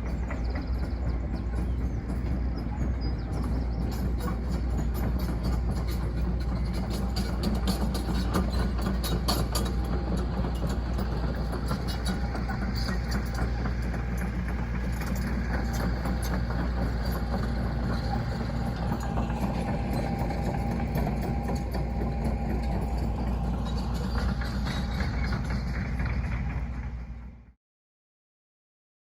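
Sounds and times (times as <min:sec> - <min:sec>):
deep engine drone: 0:00.0 - 0:27.6.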